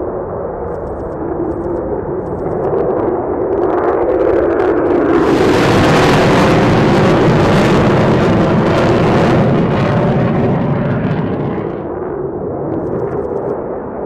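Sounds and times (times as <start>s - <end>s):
jet engine rush: 0.0s - 14.0s
low jet rumble: 0.0s - 14.0s.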